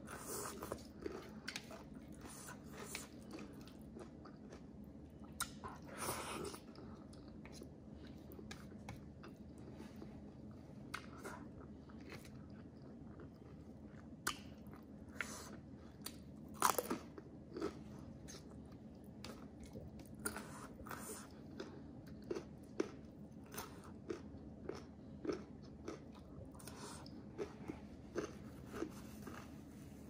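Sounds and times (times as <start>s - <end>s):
person chewing crunchy food: 0.0s - 29.8s.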